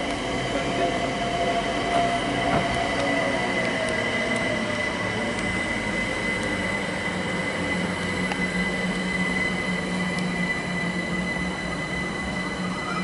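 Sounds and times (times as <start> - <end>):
electric train arriving: 0.0 - 13.0
high-pitched squeal: 0.0 - 13.0.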